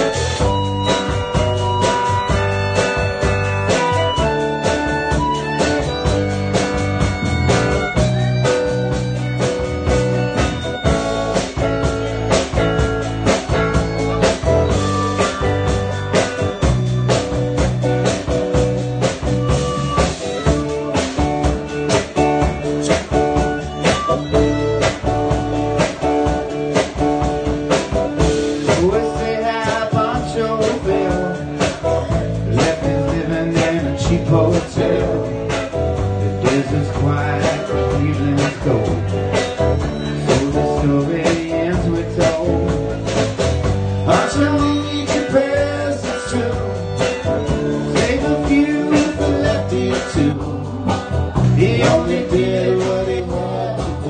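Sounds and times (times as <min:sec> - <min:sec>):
blues band playing: 0:00.0 - 0:54.0
blues harmonica: 0:00.0 - 0:54.0.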